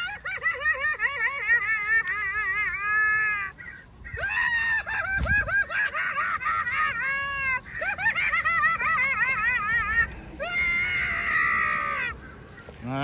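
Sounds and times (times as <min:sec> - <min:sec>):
shrieking cackle from small speaker: 0:00.0 - 0:12.7.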